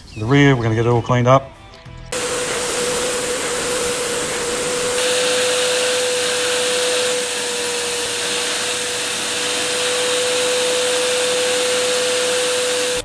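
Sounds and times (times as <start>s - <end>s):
suction hiss of water: 2.2s - 13.0s
vacuum motor whine: 2.2s - 13.0s.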